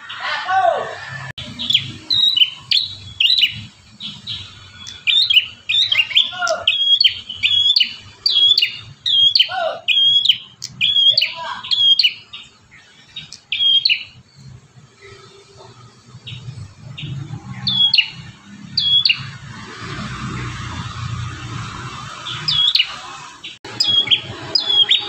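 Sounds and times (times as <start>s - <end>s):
songbird chirping: 0.0s - 25.0s.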